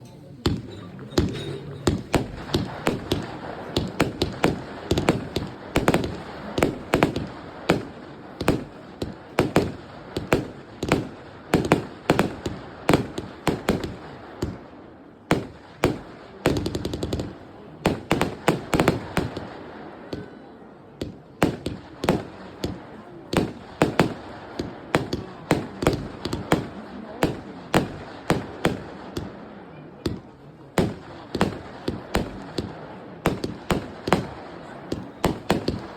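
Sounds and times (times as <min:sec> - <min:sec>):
fireworks rattling volley: 0:00.0 - 0:35.9
fireworks shots and bangs: 0:00.4 - 0:35.9.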